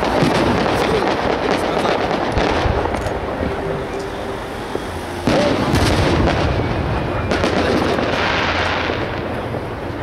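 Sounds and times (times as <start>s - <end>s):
firework shells bursting: 0.0s - 9.4s.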